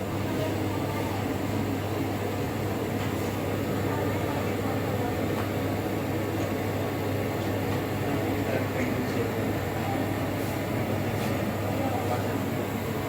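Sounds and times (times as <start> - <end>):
equipment humming: 0.0 - 13.0
ventilation airy noise: 0.0 - 13.0.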